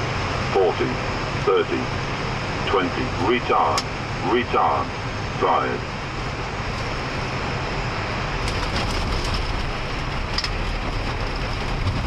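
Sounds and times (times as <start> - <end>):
rumble of wheels on runway: 0.0 - 12.0.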